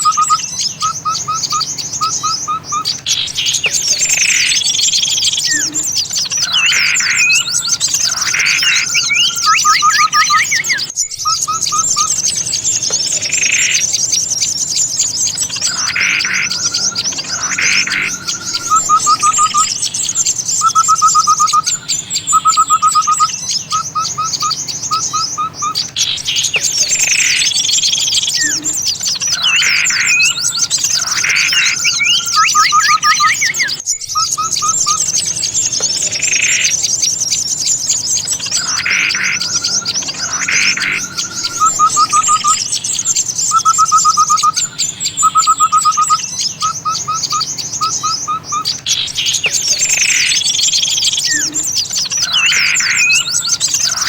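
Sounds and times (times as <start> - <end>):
many small birds twittering: 0.0 - 54.0
rapid bird trills: 0.0 - 54.0
swooping bird call notes: 0.0 - 54.0.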